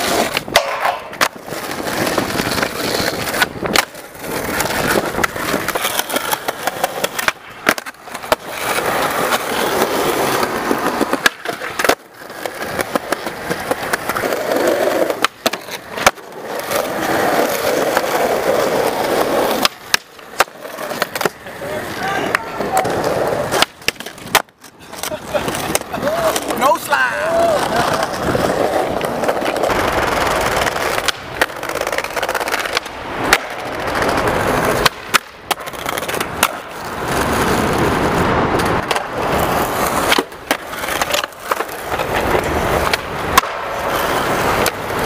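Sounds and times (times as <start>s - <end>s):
skateboard clacking: 0.0s - 45.0s
skateboard wheels rolling on asphalt: 0.0s - 45.0s.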